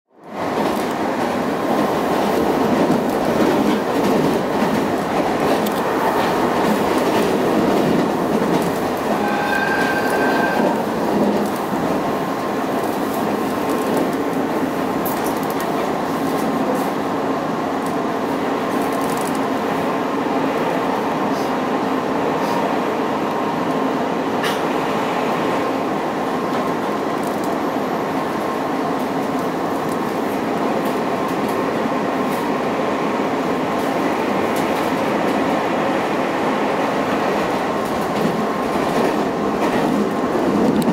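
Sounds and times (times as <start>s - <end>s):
train wheels rumbling on rails: 0.2s - 40.9s.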